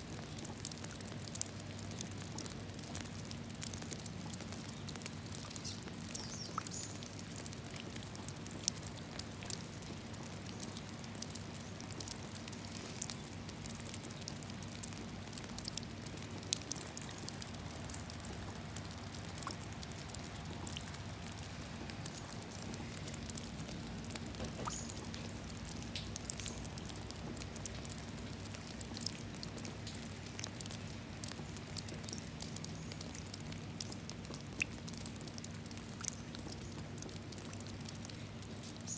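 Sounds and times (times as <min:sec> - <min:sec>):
raindrops falling into puddle: 0:00.0 - 0:38.9.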